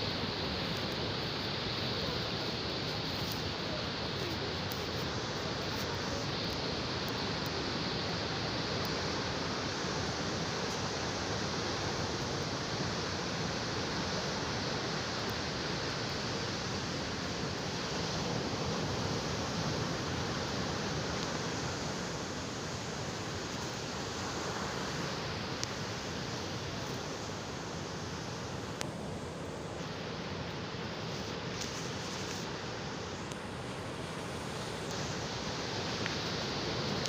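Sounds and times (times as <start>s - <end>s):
rain: 0.0s - 37.0s
sea surf: 0.0s - 37.0s.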